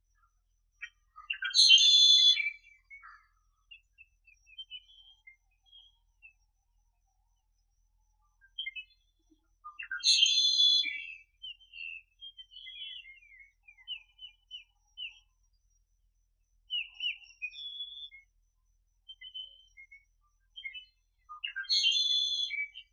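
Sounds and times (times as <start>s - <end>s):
small birds chirping and trilling: 0.1s - 15.8s, 16.6s - 18.4s, 19.0s - 22.9s.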